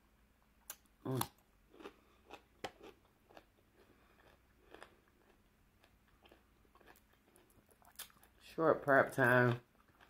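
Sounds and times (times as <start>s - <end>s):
person chewing food: 0.6s - 10.0s.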